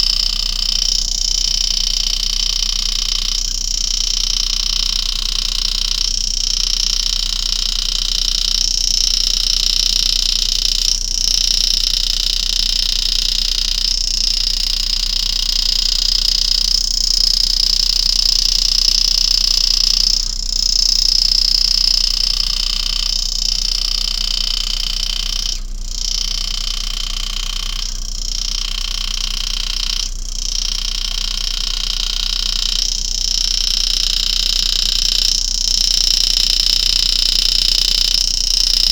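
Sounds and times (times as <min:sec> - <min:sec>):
engraving handpiece buzzing: 0:00.0 - 0:38.9.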